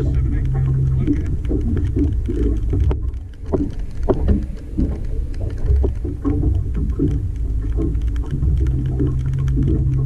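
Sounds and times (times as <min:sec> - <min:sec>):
footsteps on metal boat deck: 0:00.0 - 0:10.0
wind and rain on microphone: 0:00.0 - 0:10.0.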